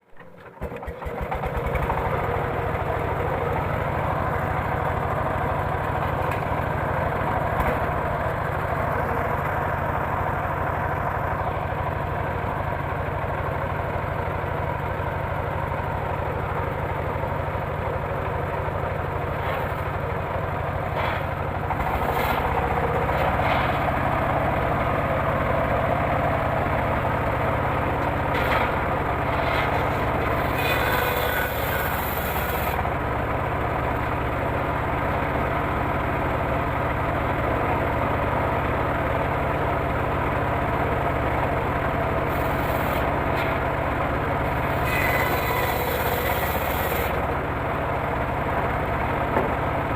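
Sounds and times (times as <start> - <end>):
sawmill engine running: 0.0 - 49.9.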